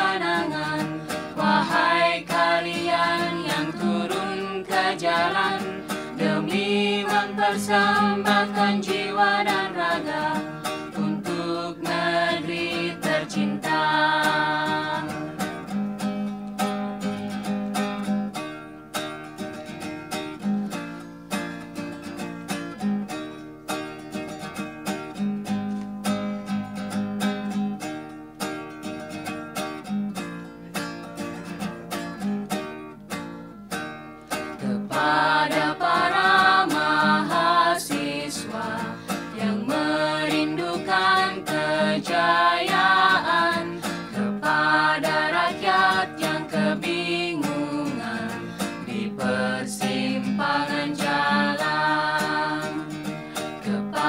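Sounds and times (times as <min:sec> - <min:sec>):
plucked strings: 0:00.0 - 0:54.0.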